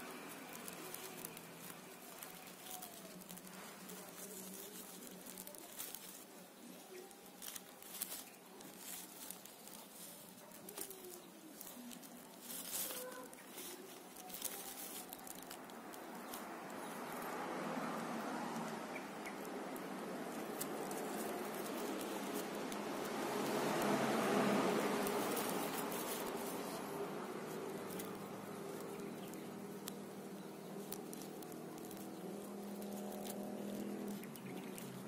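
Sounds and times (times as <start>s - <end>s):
leaves rustling and clicking: 0.0s - 35.0s.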